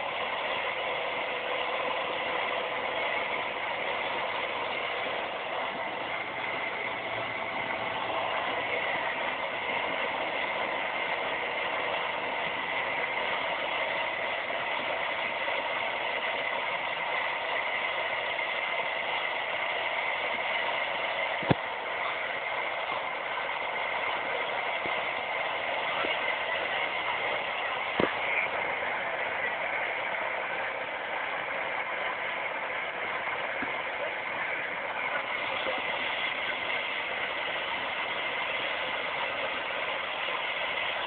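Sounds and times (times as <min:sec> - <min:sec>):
propeller airplane engine: 0:00.0 - 0:41.0.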